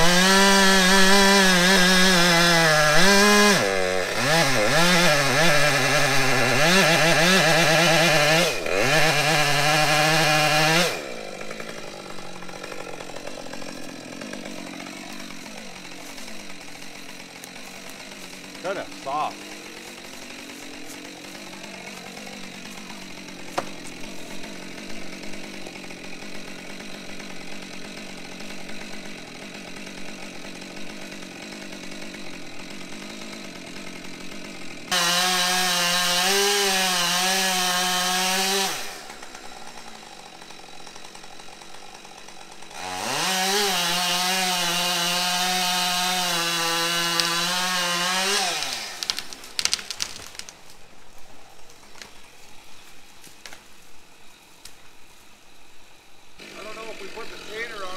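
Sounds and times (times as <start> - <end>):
chainsaw idling and revving: 0.0 - 54.7, 55.3 - 57.9.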